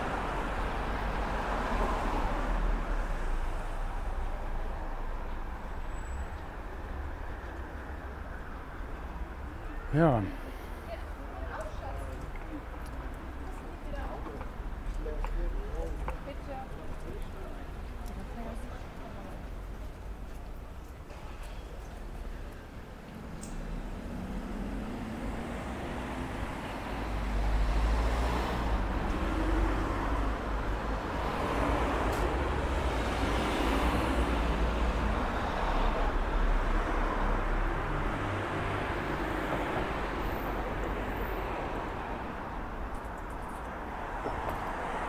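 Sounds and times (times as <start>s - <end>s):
cars passing: 0.0s - 45.0s
low traffic rumble: 0.0s - 45.0s.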